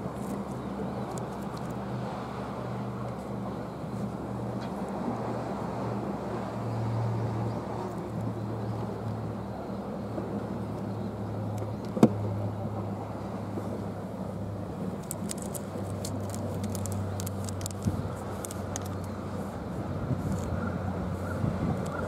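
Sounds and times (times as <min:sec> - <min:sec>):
engine idling hum: 0:00.0 - 0:22.0.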